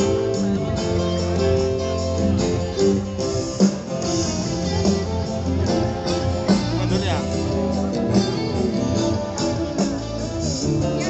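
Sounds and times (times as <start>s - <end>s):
bass line: 0.0s - 11.0s
strummed and plucked guitar: 0.0s - 11.0s.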